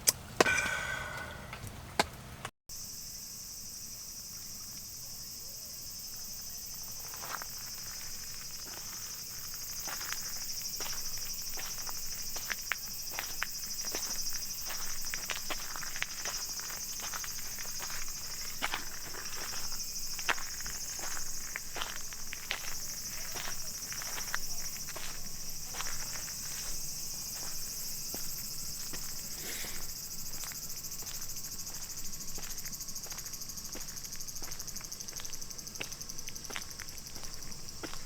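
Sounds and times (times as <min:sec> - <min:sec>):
shrill insect chorus: 0:02.7 - 0:38.0.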